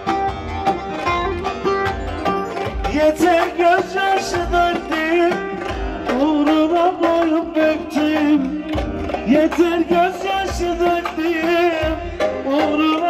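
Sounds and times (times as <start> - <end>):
plucked string melody: 0.0 - 13.0
pounding drum beat: 0.0 - 13.0.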